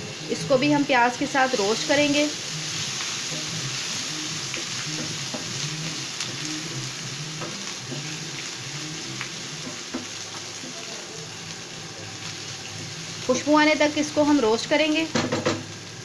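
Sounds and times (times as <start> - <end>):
onions sizzling in ghee: 0.0 - 16.0.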